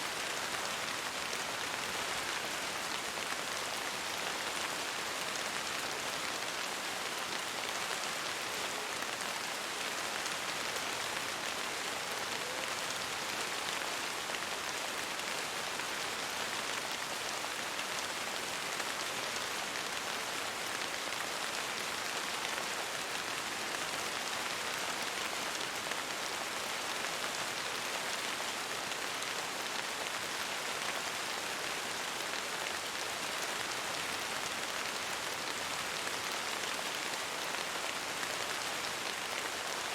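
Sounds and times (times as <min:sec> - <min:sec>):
rain on a window pane: 0:00.1 - 0:39.9.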